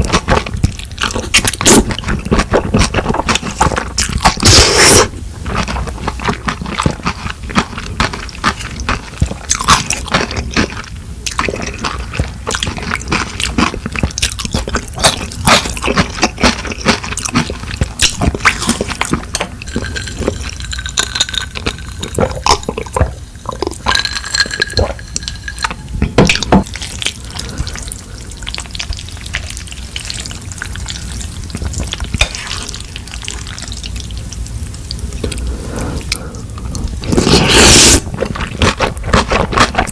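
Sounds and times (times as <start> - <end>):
wet squishy chewing: 0.0 - 39.9.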